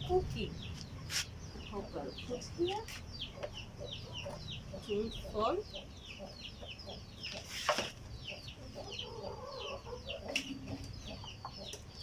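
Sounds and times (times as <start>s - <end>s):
chicks peeping: 0.0s - 12.0s
chickens clucking: 0.1s - 12.0s.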